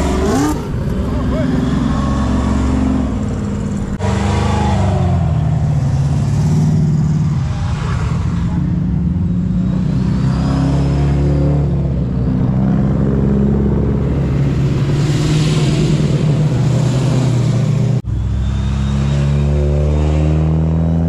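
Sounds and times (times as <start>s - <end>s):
sports car engines accelerating: 0.0s - 21.0s.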